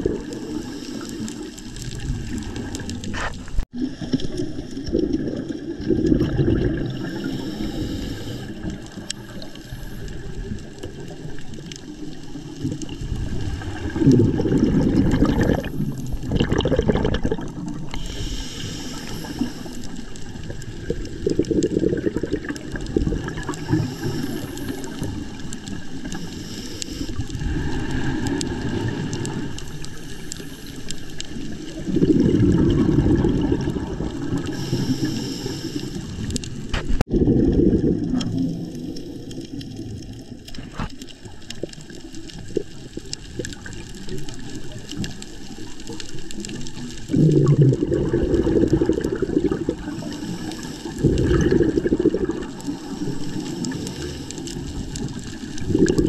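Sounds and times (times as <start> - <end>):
exhaled bubbles rushing out: 0.0 - 26.3, 27.0 - 56.0
low rumble of water: 0.0 - 56.0.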